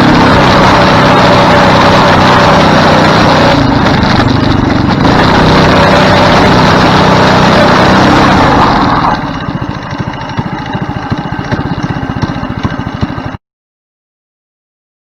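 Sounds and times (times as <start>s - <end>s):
go-kart engine: 0.0s - 13.4s.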